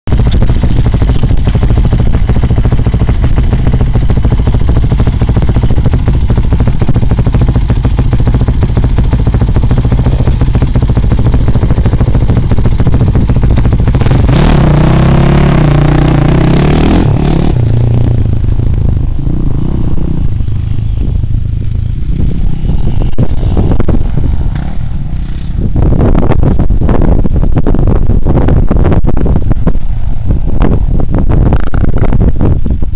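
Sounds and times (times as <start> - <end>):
motocross bike engine revving: 0.1 - 27.3.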